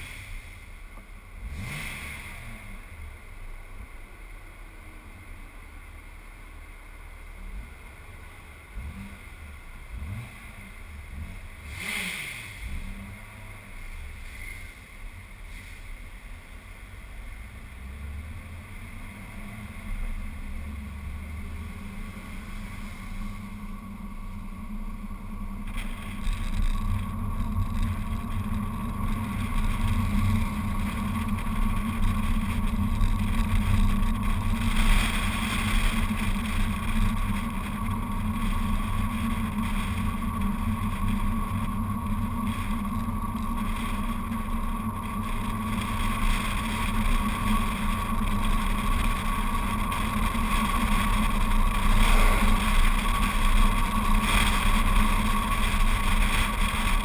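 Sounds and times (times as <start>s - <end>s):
car engine cruising drone: 0.0s - 57.0s
road rumble: 0.0s - 57.0s.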